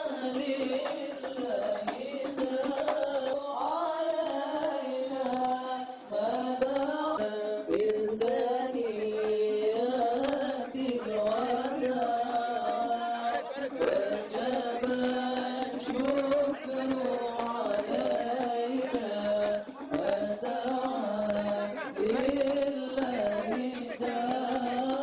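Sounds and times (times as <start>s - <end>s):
chanted devotional singing: 0.0s - 25.0s
hand drum percussion: 0.0s - 25.0s.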